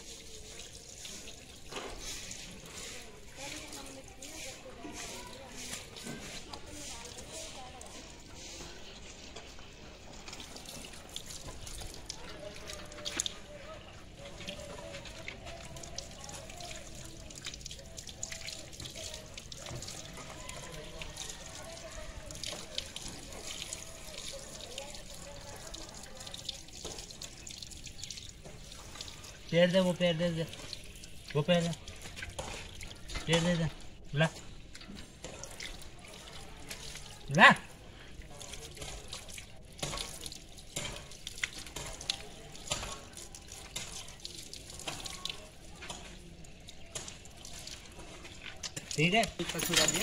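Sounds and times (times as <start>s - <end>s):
hose water splashing on concrete: 0.0s - 50.0s.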